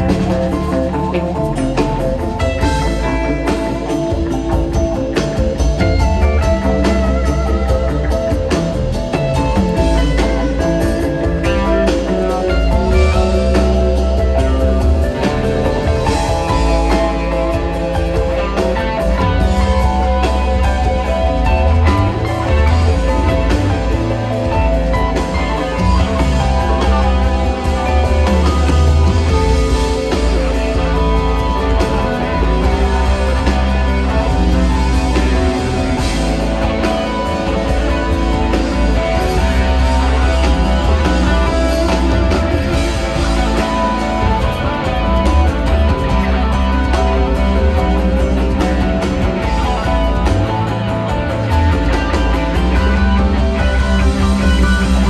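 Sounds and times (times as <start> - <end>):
heavy steady bass: 0.0 - 55.0
lead guitar: 0.0 - 55.0
rock band playing live: 0.0 - 55.0.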